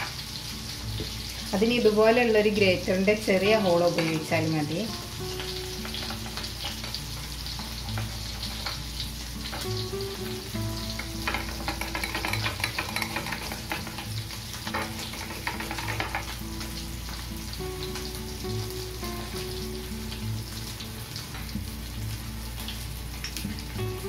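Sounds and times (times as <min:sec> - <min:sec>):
fish sizzling in butter: 0:00.0 - 0:24.0.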